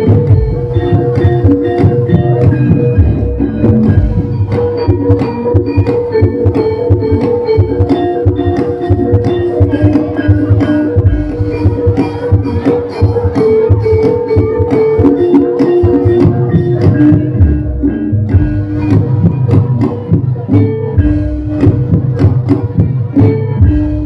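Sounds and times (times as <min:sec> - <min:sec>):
hand drums fast rhythm: 0:00.0 - 0:24.0
ringing metallophone notes: 0:00.0 - 0:24.0.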